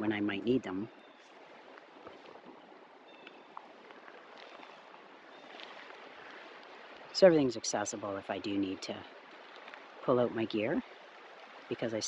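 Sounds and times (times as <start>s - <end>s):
water drip ticks: 1.2s - 7.9s, 8.6s - 11.9s.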